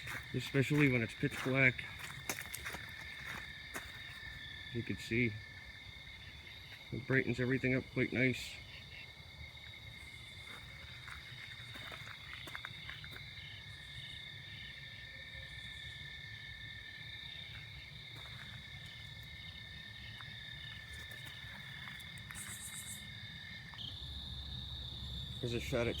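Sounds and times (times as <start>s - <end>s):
insects trilling: 0.0s - 26.0s
pulsing cricket chirp: 0.0s - 26.0s.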